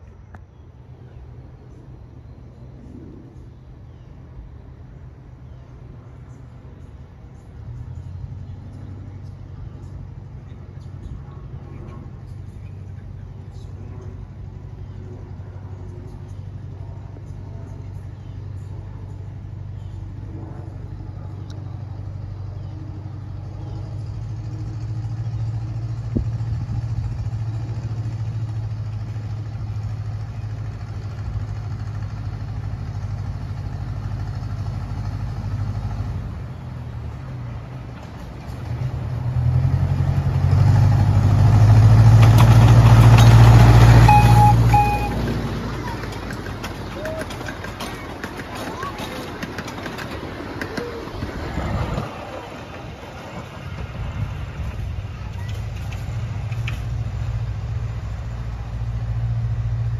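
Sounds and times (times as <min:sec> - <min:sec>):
miniature train engine drone: 0:00.0 - 0:59.9.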